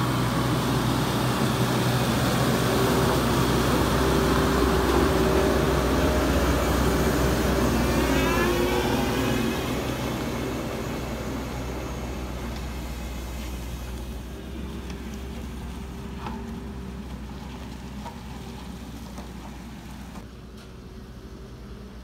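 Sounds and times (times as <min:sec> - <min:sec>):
road roller diesel engine: 0:00.0 - 0:22.0.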